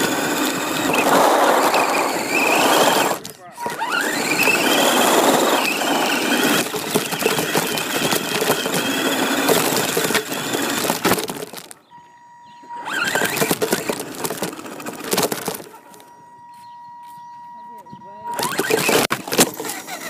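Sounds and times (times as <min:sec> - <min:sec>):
rc car rattling over ground: 0:00.0 - 0:11.9, 0:12.8 - 0:16.0, 0:18.2 - 0:20.0.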